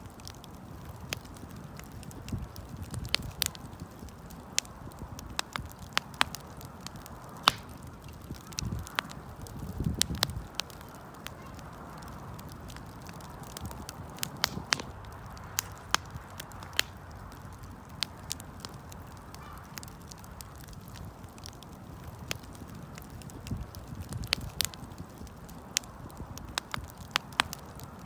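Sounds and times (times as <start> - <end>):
campfire crackling and popping: 0.0 - 28.0
hiss of flames: 0.0 - 28.0.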